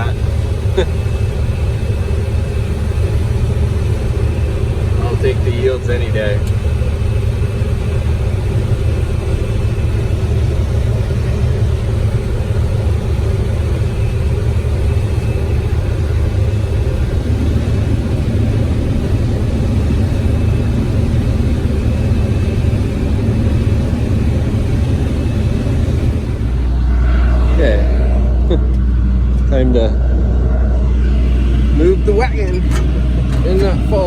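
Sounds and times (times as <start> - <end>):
combine harvester droning: 0.0 - 34.0.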